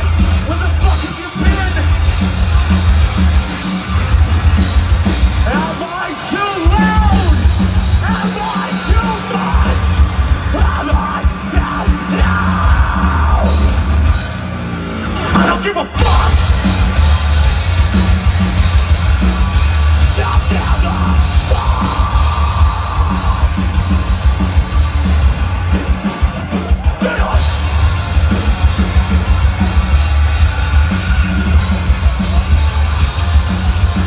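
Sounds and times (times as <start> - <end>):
live metal band playing: 0.0 - 34.0.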